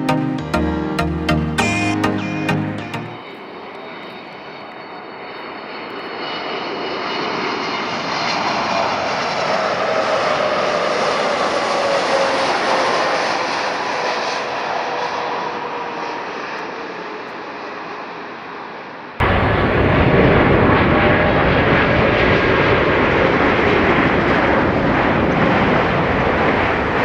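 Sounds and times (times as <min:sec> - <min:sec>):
jet engine whine: 0:02.3 - 0:27.0
jet airliner passing: 0:03.2 - 0:27.0.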